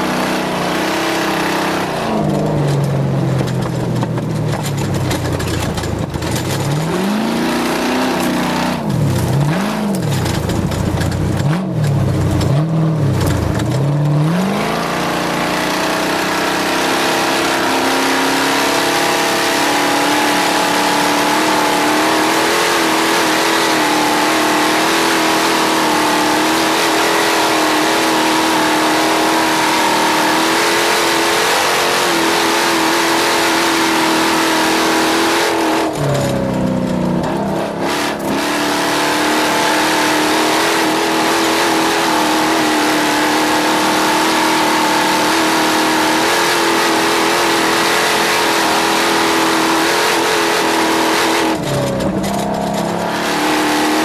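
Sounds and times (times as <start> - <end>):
vehicle engine at high revs: 0.0 - 54.0.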